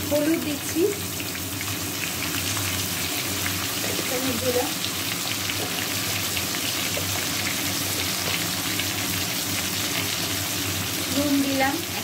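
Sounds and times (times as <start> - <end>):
potatoes frying in oil: 0.0 - 12.0.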